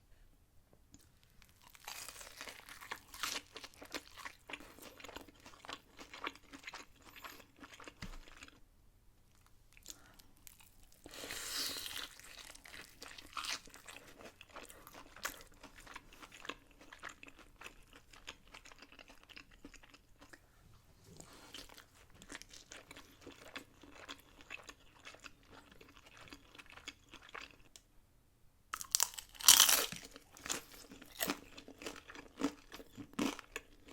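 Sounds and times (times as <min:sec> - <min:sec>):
chewing crunchy food: 0:01.0 - 0:08.6, 0:09.3 - 0:20.5, 0:21.2 - 0:27.8, 0:28.8 - 0:33.9.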